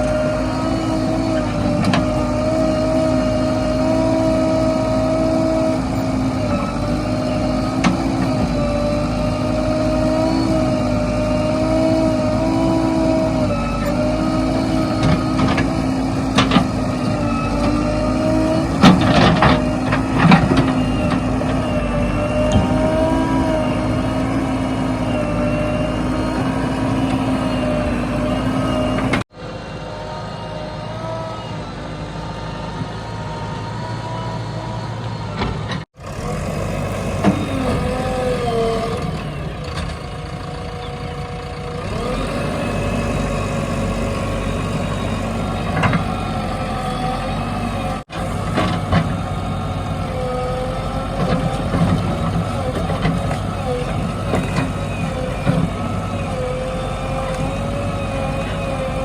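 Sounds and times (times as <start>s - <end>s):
diesel engines revving under load: 0.0s - 59.0s.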